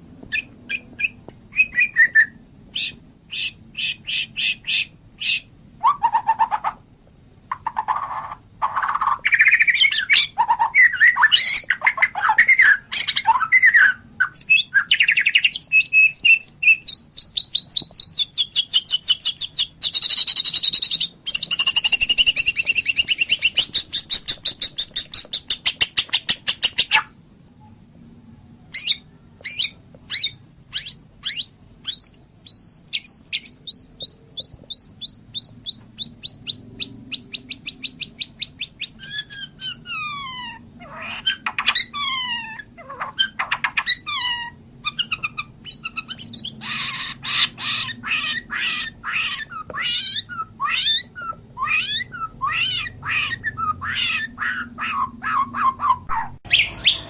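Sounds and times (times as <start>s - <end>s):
bird singing whistled phrases: 0.3s - 6.5s, 8.8s - 27.2s, 28.7s - 40.5s, 44.9s - 57.0s
rapid bird trill: 0.3s - 6.8s, 7.5s - 27.2s, 28.7s - 57.0s.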